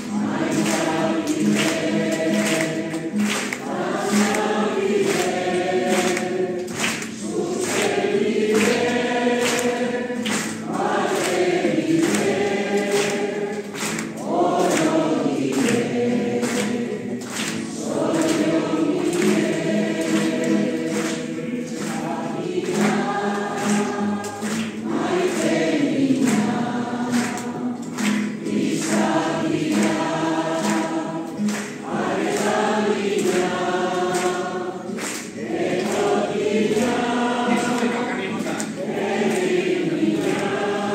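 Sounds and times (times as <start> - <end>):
congregation singing: 0.0 - 40.9.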